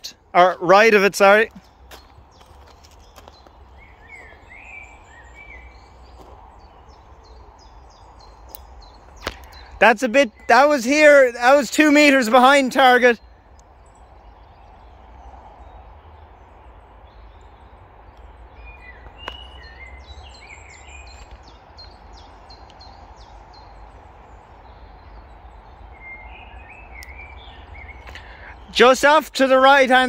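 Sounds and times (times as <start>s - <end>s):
outdoor background noise: 0.0s - 30.0s
small birds chirping: 0.0s - 30.0s.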